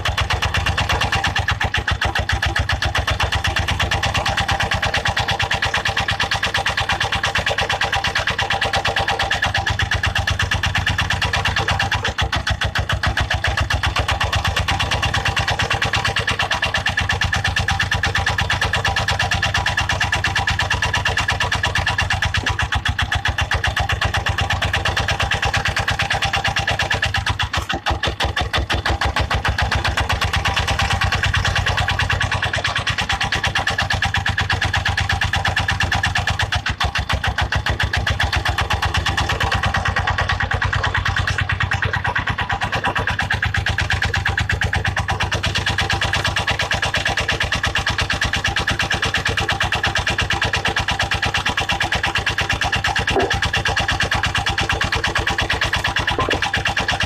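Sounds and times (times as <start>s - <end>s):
small tractor engine running: 0.0s - 57.0s.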